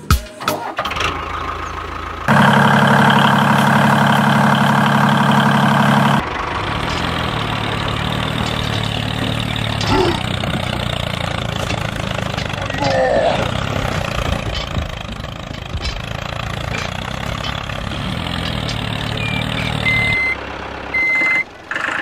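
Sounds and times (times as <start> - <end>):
tractor engine chugging: 0.5 - 22.0.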